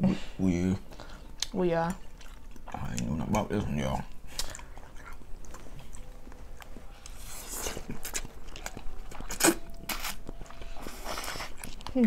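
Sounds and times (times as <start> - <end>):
wet chewing: 0.9 - 12.0.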